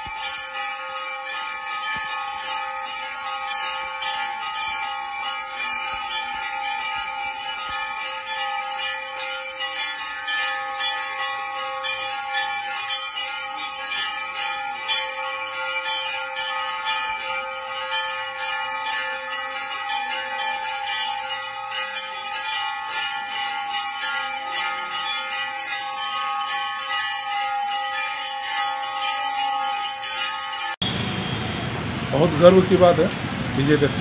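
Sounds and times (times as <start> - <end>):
bells ringing rapidly: 0.0 - 30.9.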